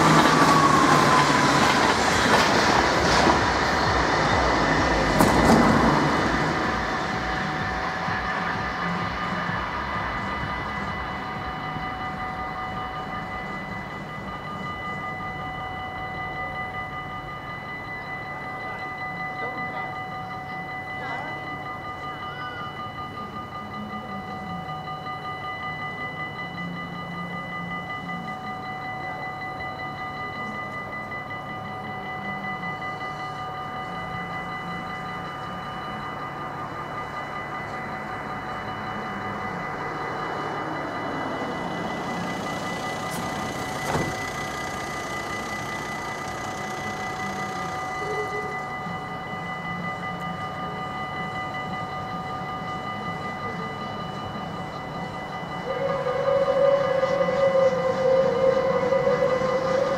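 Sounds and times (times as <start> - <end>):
approaching train rumble: 0.0 - 59.9
level crossing bell ringing: 0.0 - 59.9.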